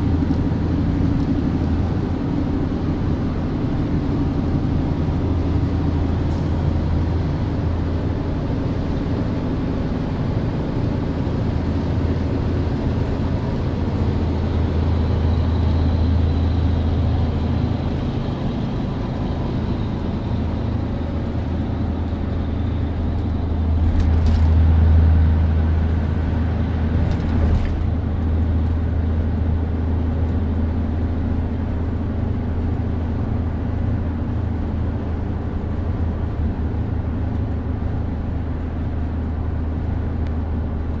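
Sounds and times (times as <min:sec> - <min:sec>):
highway driving rumble in cab: 0:00.0 - 0:41.0
truck passing alongside: 0:00.0 - 0:41.0.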